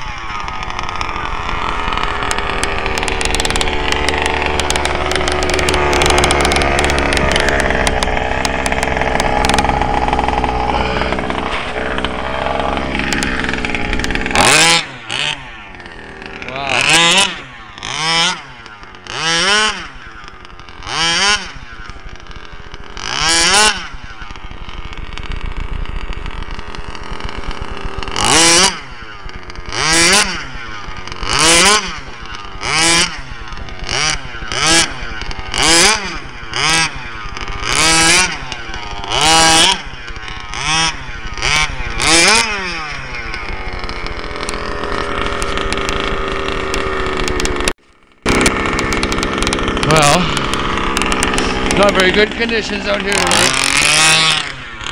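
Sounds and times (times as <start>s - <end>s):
small two-stroke engine revving: 0.0s - 54.9s.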